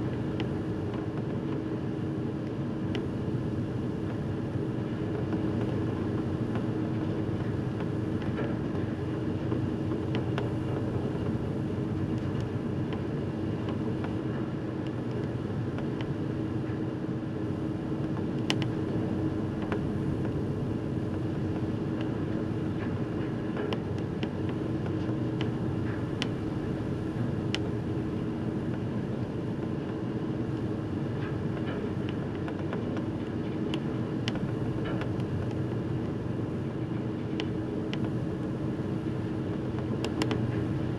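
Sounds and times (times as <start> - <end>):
ship engine rumble and hum: 0.0 - 40.9.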